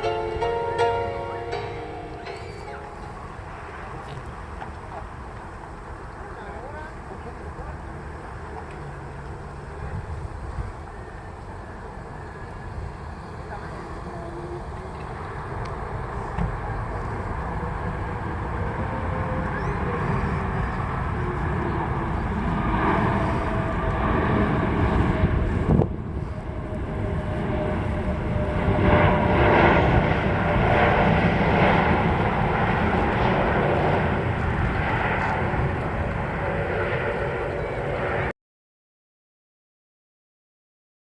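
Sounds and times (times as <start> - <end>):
jet engines rumbling: 0.0 - 38.3.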